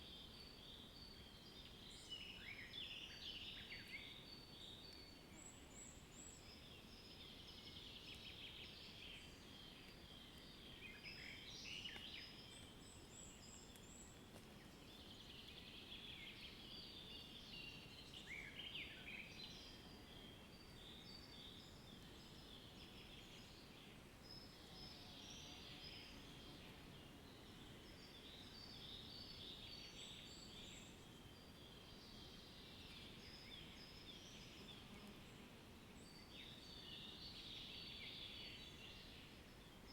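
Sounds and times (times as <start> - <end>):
birds chirping and twittering: 0.1 - 39.9.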